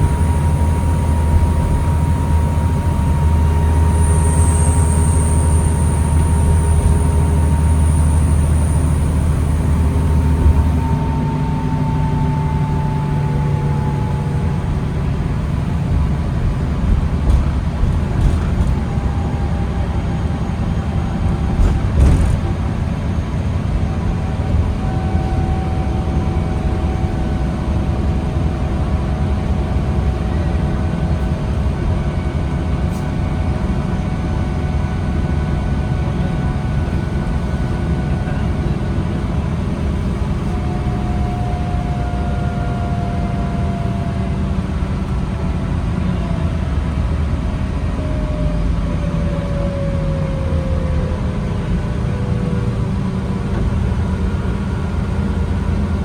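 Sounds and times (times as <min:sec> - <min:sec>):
bus engine and road rumble: 0:00.0 - 0:56.0
faint whining tones: 0:00.0 - 0:56.0.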